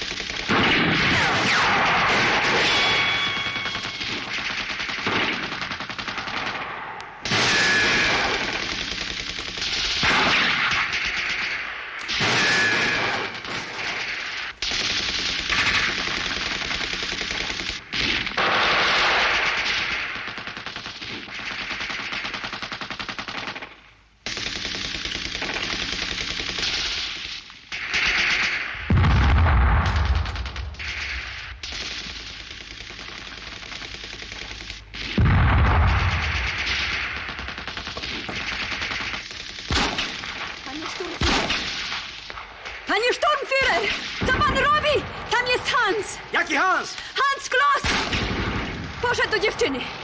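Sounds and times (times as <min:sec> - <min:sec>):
submachine guns firing bursts: 0:00.0 - 0:29.0, 0:29.8 - 0:46.1.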